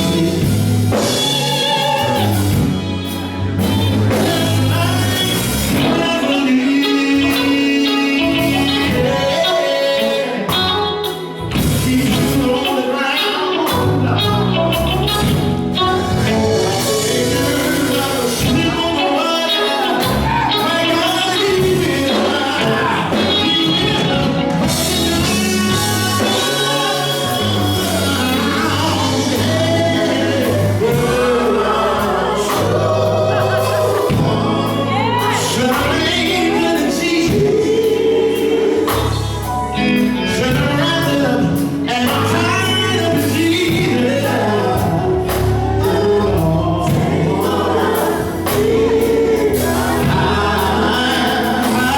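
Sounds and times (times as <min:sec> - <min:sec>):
gospel singing over a band: 0:00.0 - 0:51.9.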